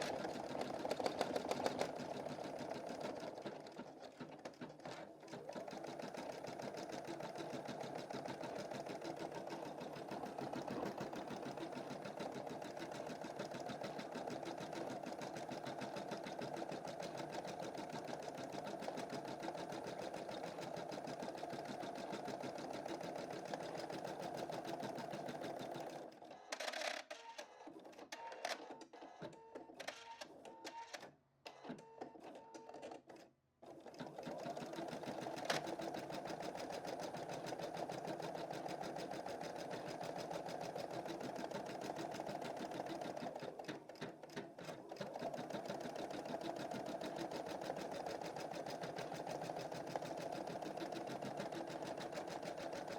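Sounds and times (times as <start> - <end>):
embroidery machine stitching: 0.0 - 26.1, 33.6 - 52.9.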